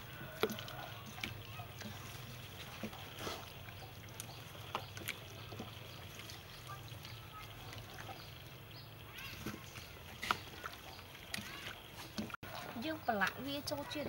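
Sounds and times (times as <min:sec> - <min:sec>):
wet squelching of meat: 0:00.0 - 0:13.2.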